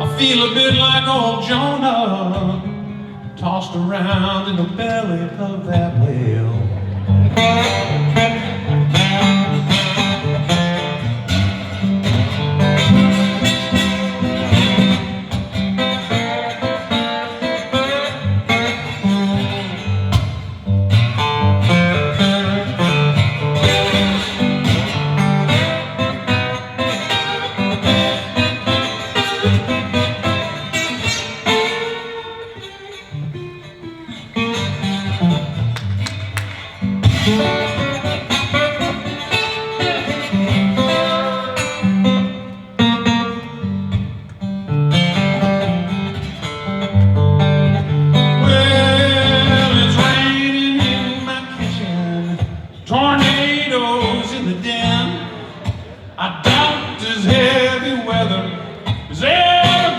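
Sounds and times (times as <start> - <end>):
blues guitar solo: 0.0 - 59.9.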